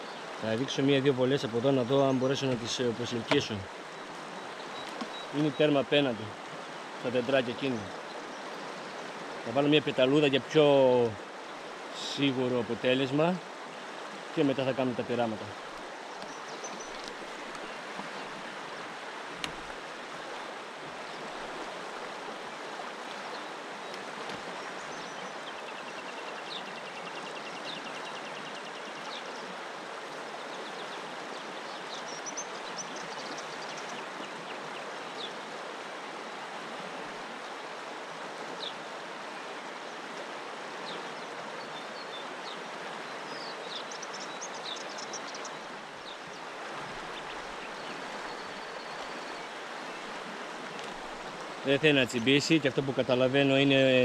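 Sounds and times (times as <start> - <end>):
river rushing over riffle: 0.0 - 54.0.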